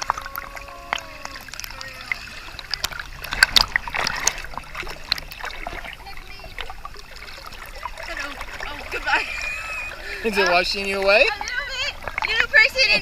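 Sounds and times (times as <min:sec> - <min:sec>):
river water splashing: 0:00.0 - 0:13.0.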